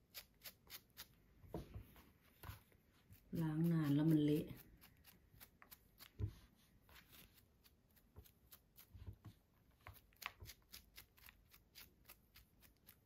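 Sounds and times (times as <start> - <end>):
soil brushed off mushrooms: 2.0 - 13.0.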